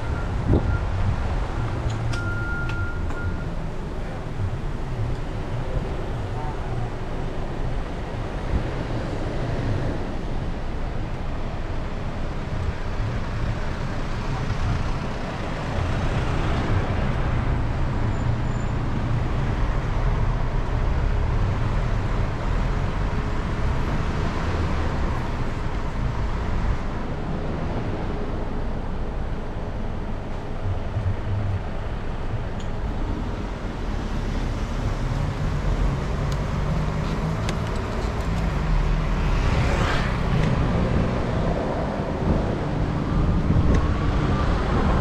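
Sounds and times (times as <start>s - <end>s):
passing cars and buses: 0.0s - 45.0s.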